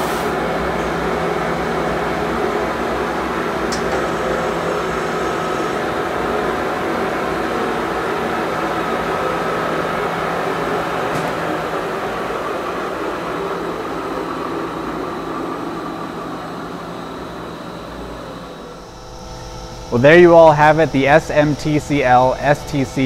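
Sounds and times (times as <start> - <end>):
lathe mechanical hum: 0.0 - 23.0.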